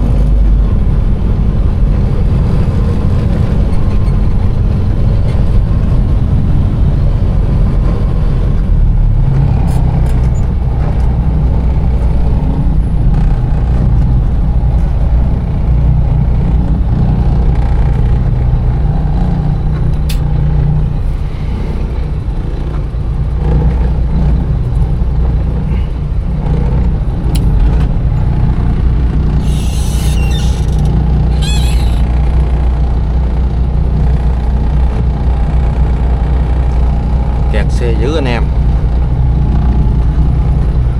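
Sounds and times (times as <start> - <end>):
truck diesel engine humming: 0.0 - 40.9.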